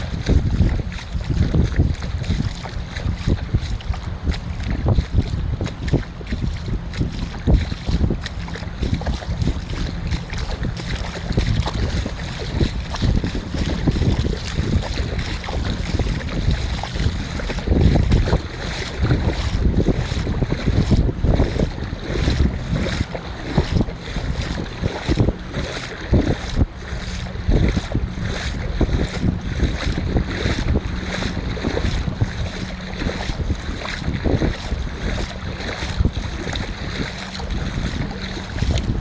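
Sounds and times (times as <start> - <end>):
surf on a beach: 0.0 - 39.0
wind buffeting microphone: 0.0 - 39.0.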